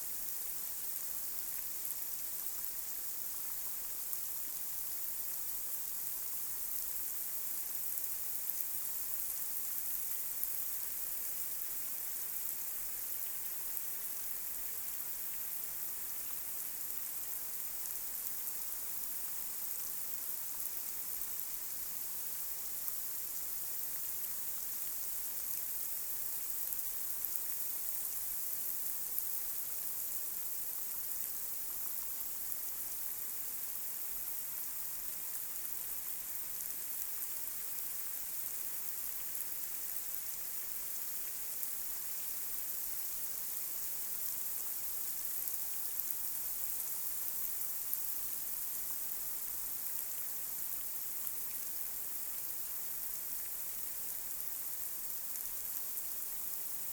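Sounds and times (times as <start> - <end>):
light rain hissing: 0.0 - 56.9.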